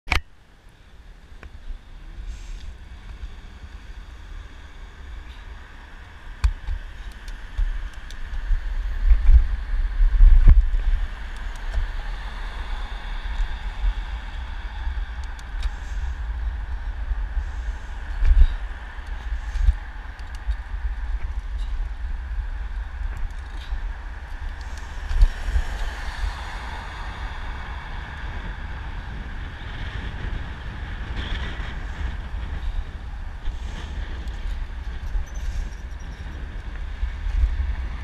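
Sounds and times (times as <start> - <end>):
faint car traffic hum: 0.3 - 38.0
wind buffeting microphone: 1.2 - 38.0
low rumble: 1.6 - 38.0.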